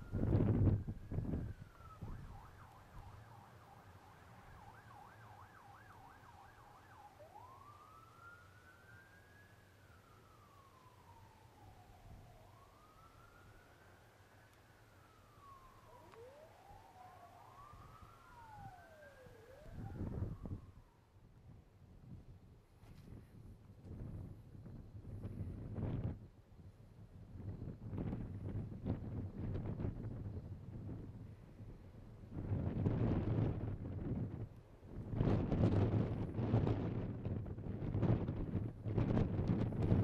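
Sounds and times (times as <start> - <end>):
emergency vehicle siren: 0.0 - 21.4, 27.4 - 40.0.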